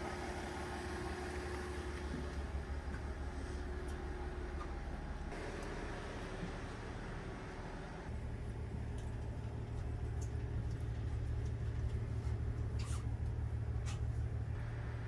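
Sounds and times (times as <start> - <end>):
diesel railcar rumble: 0.0 - 15.0.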